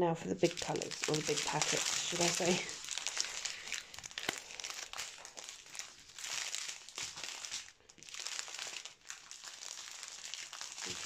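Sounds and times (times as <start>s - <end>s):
plastic bags crinkling: 0.2s - 11.0s.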